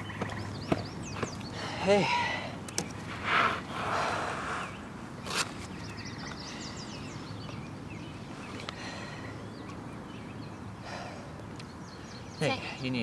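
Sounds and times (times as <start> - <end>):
low outdoor background noise: 0.0 - 13.0
small birds chirping: 0.0 - 13.0.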